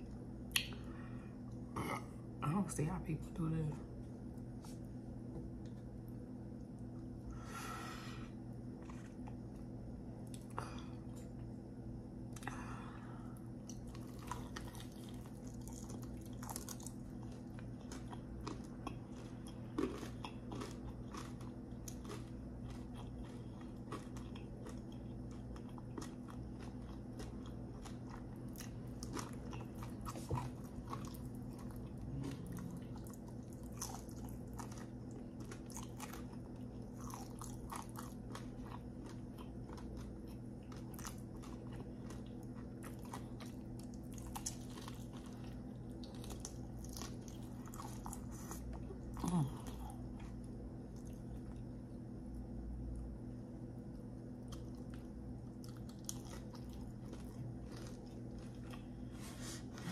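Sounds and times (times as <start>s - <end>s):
steady low hum: 0.0s - 59.9s
person chewing crispy chicken: 8.7s - 11.5s, 13.4s - 53.0s, 53.9s - 59.9s.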